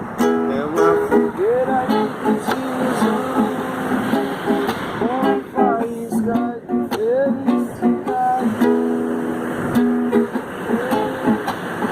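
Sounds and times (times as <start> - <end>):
strummed acoustic guitar: 0.0 - 11.9
person singing wordless melody: 0.5 - 9.4, 10.2 - 11.9.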